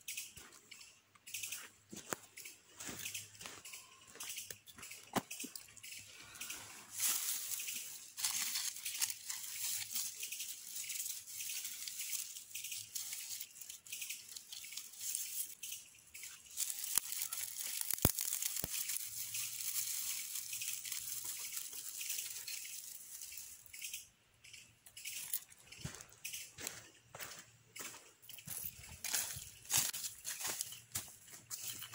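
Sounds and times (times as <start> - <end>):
dry grass crackling rustle: 2.8 - 24.1, 25.0 - 31.9.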